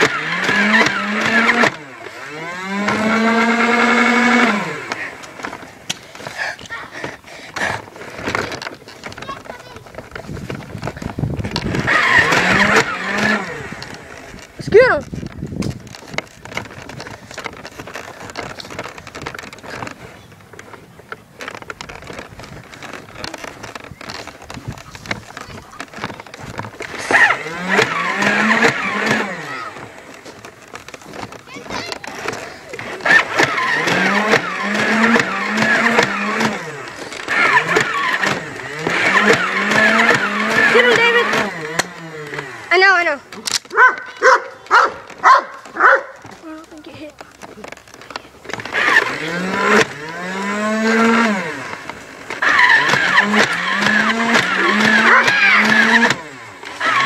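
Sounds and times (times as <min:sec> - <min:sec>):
electric flywheel motor whining: 0:00.0 - 0:57.0
rustling: 0:00.0 - 0:57.0
sharp clicks: 0:00.0 - 0:57.0.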